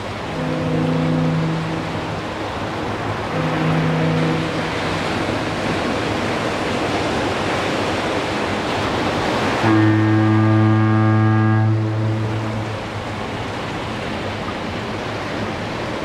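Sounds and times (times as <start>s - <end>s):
distant foghorn: 0.0s - 7.3s, 8.6s - 14.7s
surf breaking on beach: 0.0s - 16.0s.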